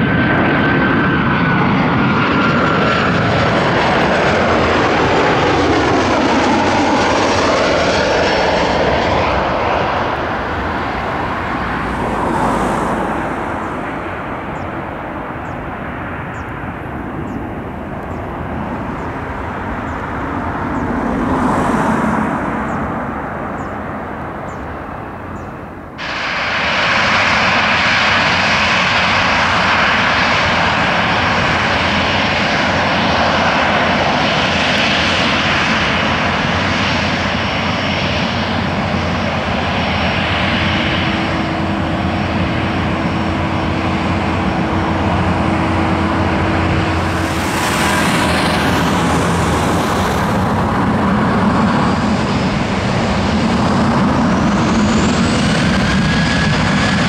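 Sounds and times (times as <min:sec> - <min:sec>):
low engine rumble: 0:00.0 - 0:34.5, 0:36.4 - 0:57.0
jet engine whine: 0:00.0 - 0:57.0.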